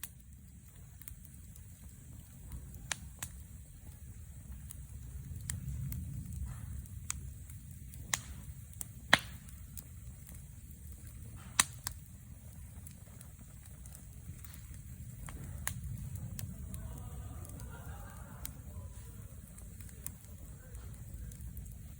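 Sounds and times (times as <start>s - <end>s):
steady low rumble: 0.0s - 21.9s
wood fire crackling and popping: 0.0s - 21.9s.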